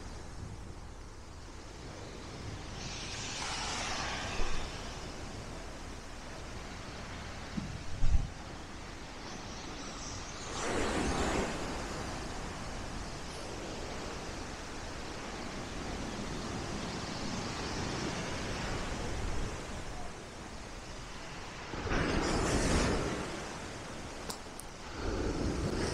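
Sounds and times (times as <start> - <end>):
waves washing onto shore: 0.0 - 25.9.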